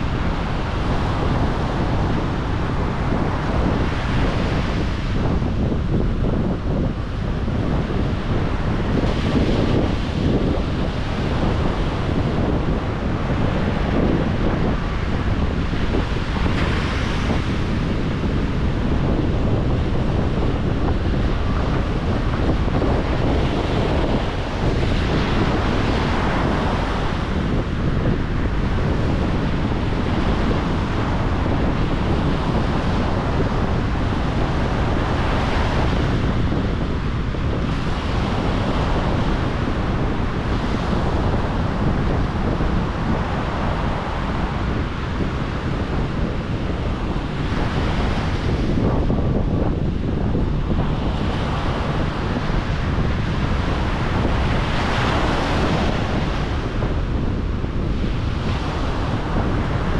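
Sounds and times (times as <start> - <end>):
breaking ocean waves: 0.0 - 59.9.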